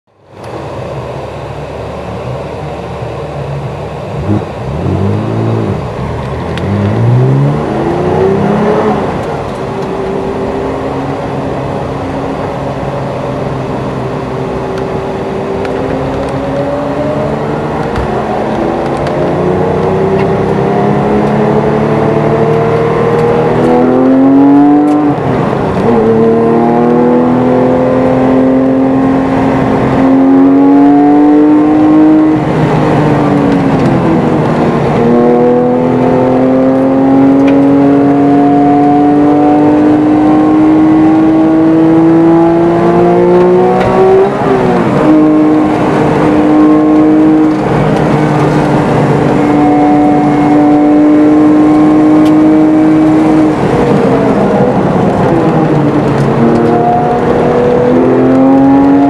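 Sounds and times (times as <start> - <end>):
car engine idling and revving: 0.1 - 59.0.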